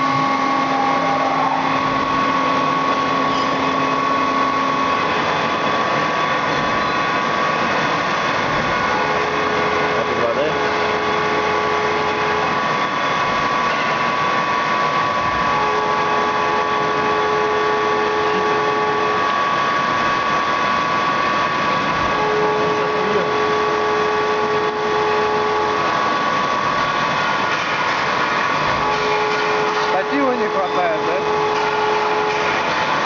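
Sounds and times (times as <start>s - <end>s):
low machine tone: 0.0s - 33.0s
milling machine whine: 0.0s - 33.0s.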